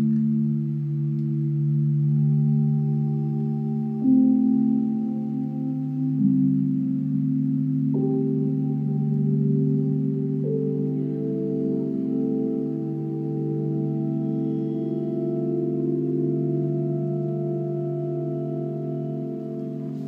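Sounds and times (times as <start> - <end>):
electronic organ-like drone: 0.0 - 20.0.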